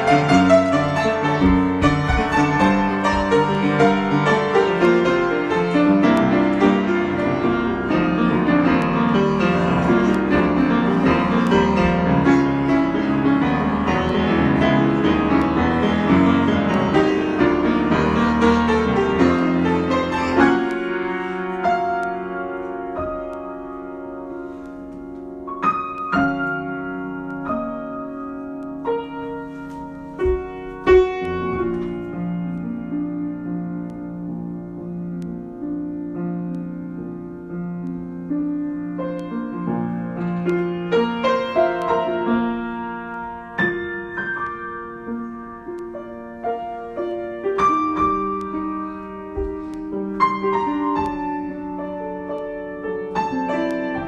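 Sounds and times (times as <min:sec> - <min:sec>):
solo piano: 0:00.0 - 0:54.0.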